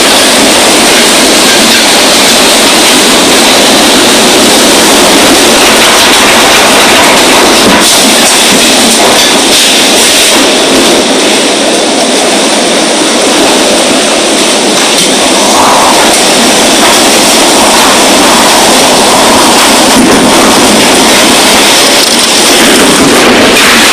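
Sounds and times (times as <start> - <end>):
strong wind rushing: 0.0 - 23.9.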